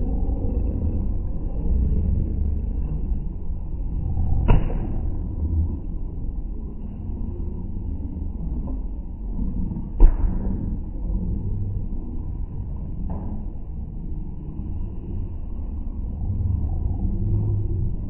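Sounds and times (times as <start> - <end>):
muffled low rumble: 0.0 - 18.0.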